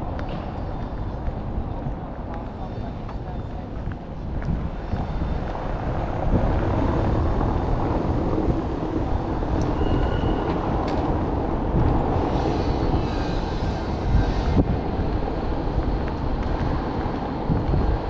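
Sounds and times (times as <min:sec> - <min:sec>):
rumbling city street noise: 0:00.0 - 0:18.0.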